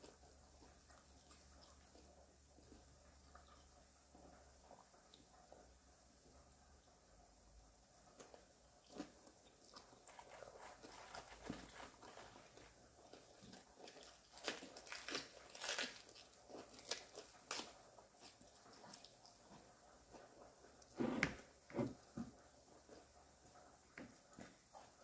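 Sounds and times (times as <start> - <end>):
person chewing crunchy food: 0.0 - 5.6, 8.1 - 25.0.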